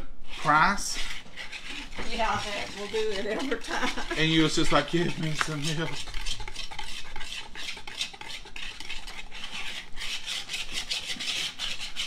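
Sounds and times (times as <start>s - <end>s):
wire whisk scraping plastic bowl: 0.3s - 12.0s.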